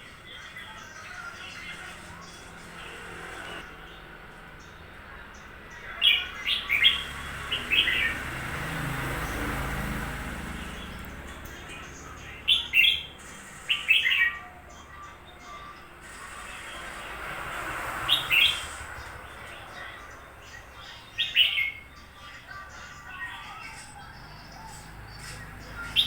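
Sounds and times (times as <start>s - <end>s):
bird warbling song: 0.0s - 26.0s.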